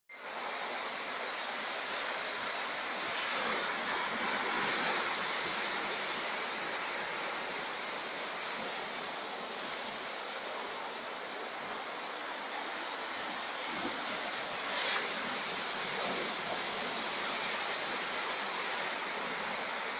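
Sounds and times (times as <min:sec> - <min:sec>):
waves breaking on rocky beach: 0:02.3 - 0:19.9.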